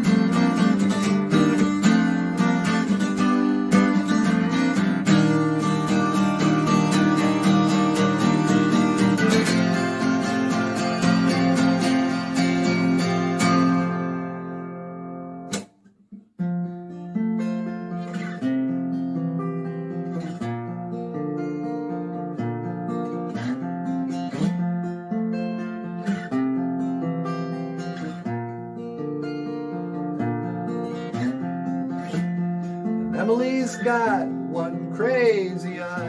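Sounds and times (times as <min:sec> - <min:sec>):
acoustic guitar chord ringing: 0:00.0 - 0:15.8, 0:16.4 - 0:36.0
picked guitar line: 0:00.0 - 0:36.0.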